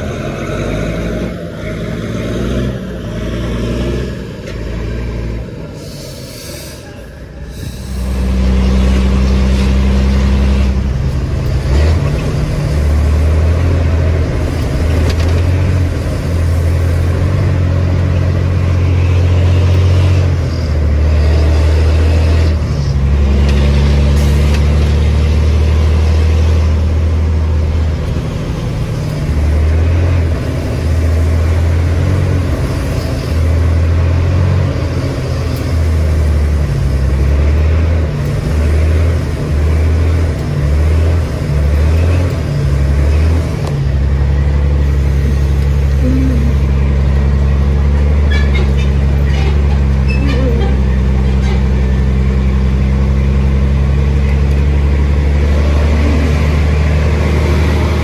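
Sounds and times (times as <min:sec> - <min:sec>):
truck diesel engine pulling away: 0:00.0 - 0:58.0.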